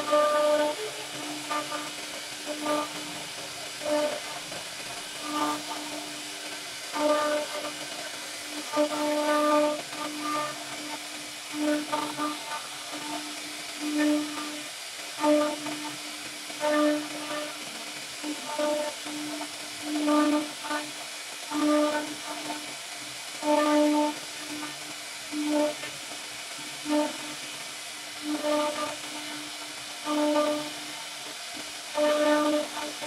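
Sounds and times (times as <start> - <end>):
cutter humming through wood: 0.0 - 22.6, 23.4 - 26.0, 28.3 - 30.8, 31.9 - 33.0
router spindle hissing: 0.0 - 33.0.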